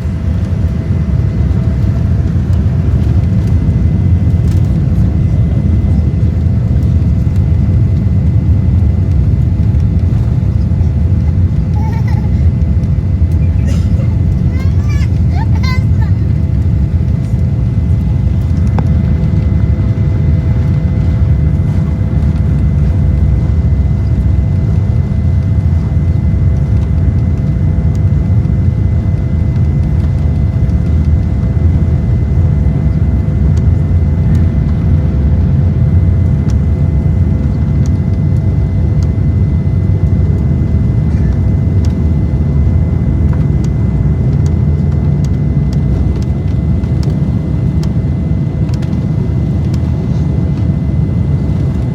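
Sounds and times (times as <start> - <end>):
airplane engine rumble: 0.0 - 51.9.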